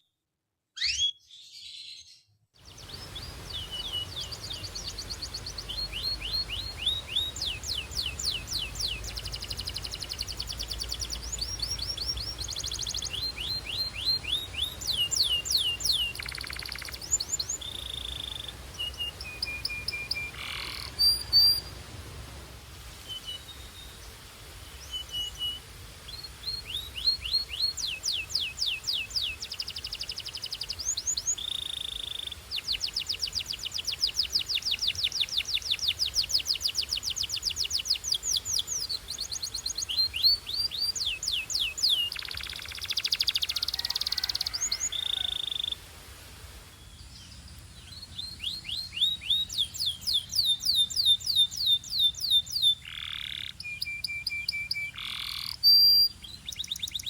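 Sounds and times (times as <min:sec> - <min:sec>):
canary singing trills: 0:00.8 - 0:21.7, 0:24.8 - 0:45.8, 0:47.0 - 0:57.0.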